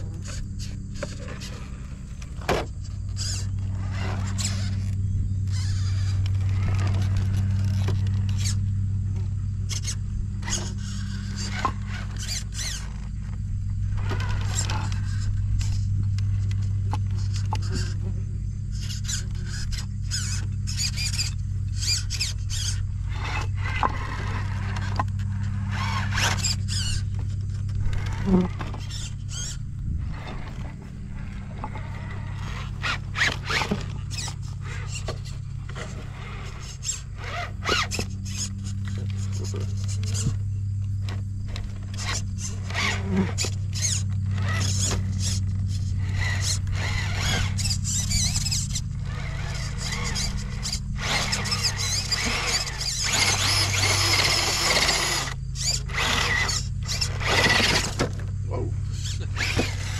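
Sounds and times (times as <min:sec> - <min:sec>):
electric motor whining: 0:00.0 - 0:59.9
scraping: 0:00.0 - 0:59.9
steady low hum: 0:00.0 - 0:59.9.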